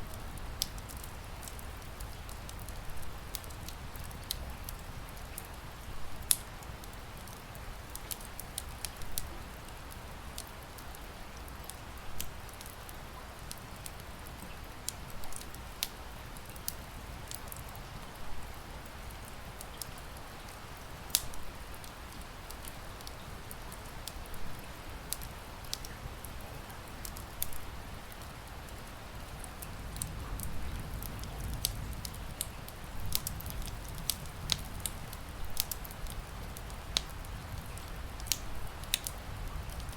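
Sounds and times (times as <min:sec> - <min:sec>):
rain hiss: 0:00.0 - 0:39.9
wood fire crackling and popping: 0:00.0 - 0:39.9.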